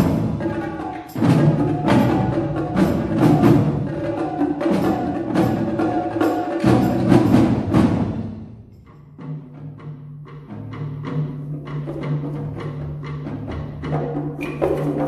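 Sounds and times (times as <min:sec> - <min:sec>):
percussion ensemble playing: 0:00.0 - 0:15.0.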